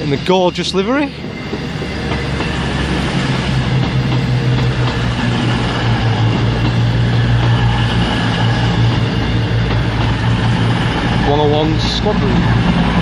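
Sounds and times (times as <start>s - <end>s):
diesel train engines droning: 0.0s - 13.0s.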